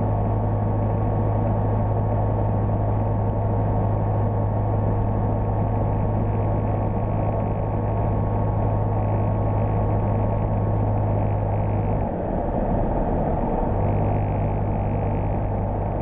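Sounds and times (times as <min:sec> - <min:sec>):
airplane engine and propeller drone: 0:00.0 - 0:16.0.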